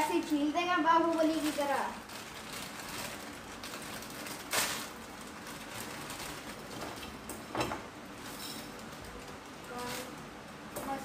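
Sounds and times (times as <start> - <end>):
plastic wrapper crinkling: 0.0 - 7.3, 8.1 - 10.3.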